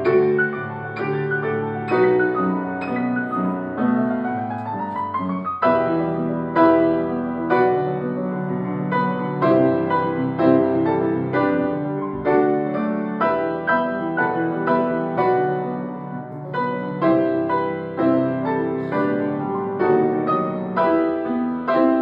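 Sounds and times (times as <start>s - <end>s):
piano duet: 0.0s - 22.0s.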